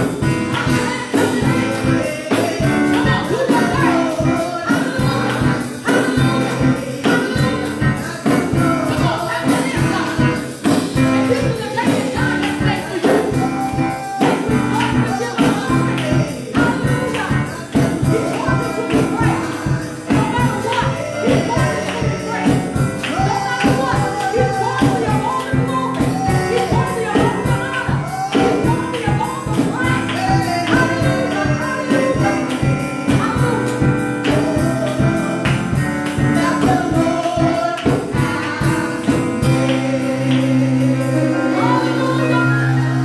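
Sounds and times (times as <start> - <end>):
gospel singing over a fast beat: 0.0 - 43.0
held chord: 0.0 - 43.0.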